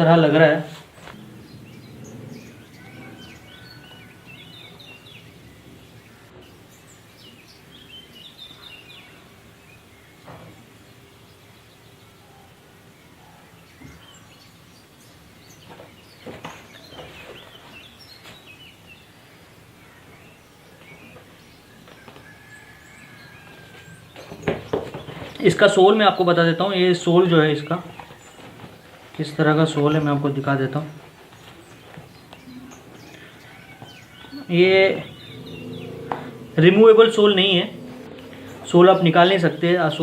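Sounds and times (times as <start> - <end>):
birds chirping faintly: 0.0 - 40.0.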